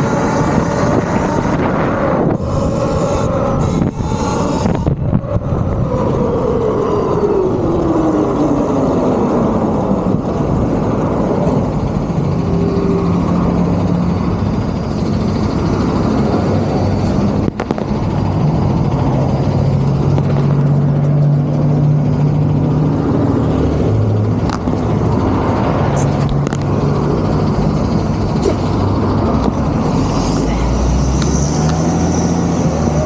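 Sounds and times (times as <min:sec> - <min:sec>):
electric motorbike motor whine: 0:00.0 - 0:33.0
truck engines idling: 0:00.0 - 0:33.0
wind and road noise: 0:00.0 - 0:33.0.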